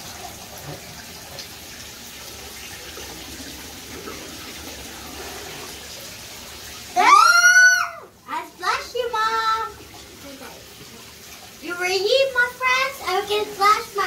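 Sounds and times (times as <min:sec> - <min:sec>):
tap water running into bathtub: 0:00.0 - 0:14.0.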